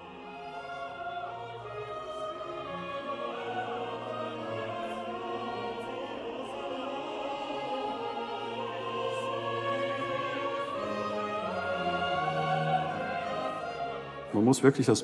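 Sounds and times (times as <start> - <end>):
slow classical music: 0.0 - 15.0.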